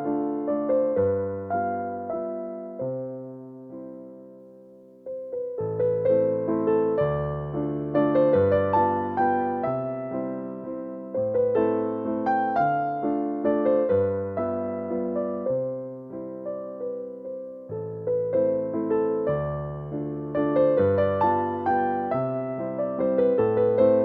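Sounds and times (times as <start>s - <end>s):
gentle slow piano melody: 0.0s - 24.0s.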